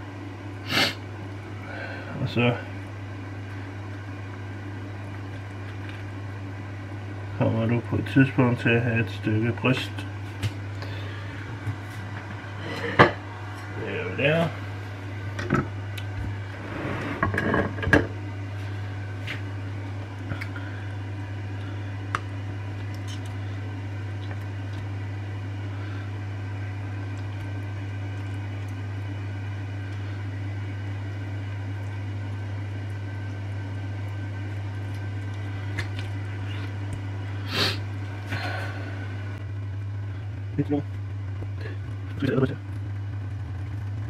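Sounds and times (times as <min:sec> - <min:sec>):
kitchen appliance humming: 0:00.0 - 0:44.0.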